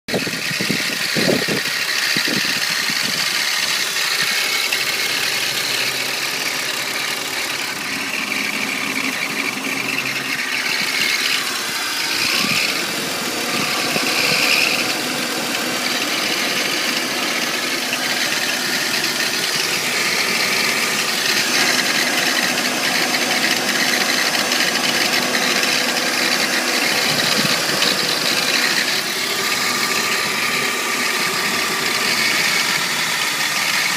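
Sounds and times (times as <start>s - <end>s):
engine rattle: 0.0s - 33.9s
car engine idling: 0.1s - 33.9s.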